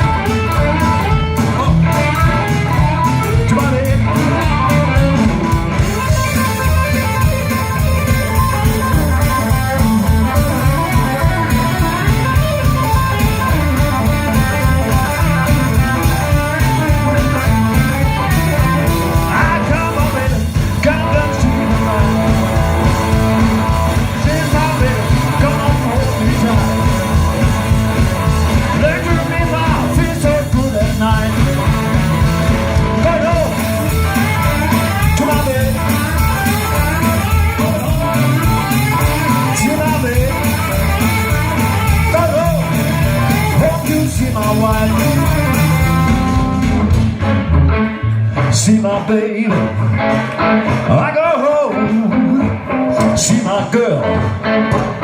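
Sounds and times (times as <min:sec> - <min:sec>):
live blues-rock band playing: 0:00.0 - 0:55.0.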